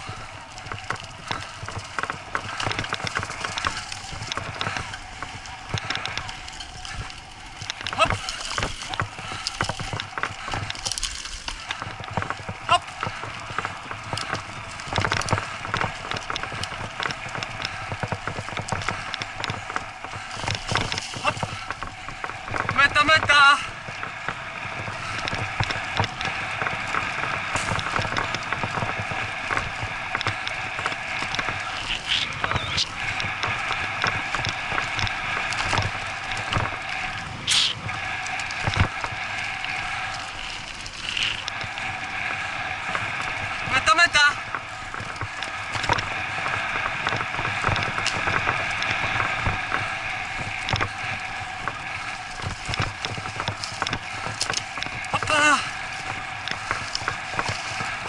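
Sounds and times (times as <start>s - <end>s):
bike clicks and rattles: 0.0s - 58.0s
bike jolt: 0.0s - 58.0s
bike tyres rolling on dirt trail: 0.0s - 58.0s.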